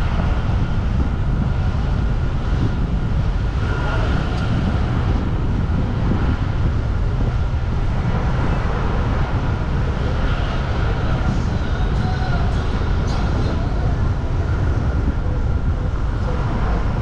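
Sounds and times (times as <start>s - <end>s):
street traffic rumble: 0.0s - 17.0s
wind buffeting microphone: 0.0s - 17.0s.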